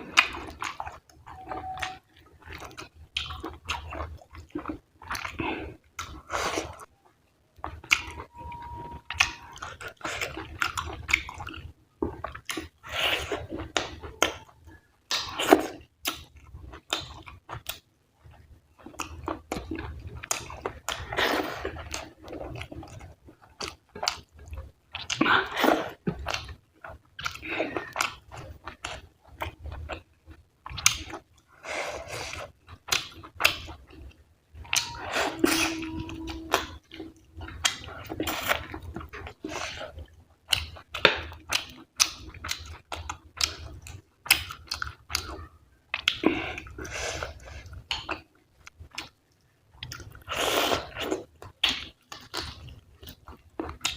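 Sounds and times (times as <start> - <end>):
chewing and wet smacking: 0.0 - 53.9.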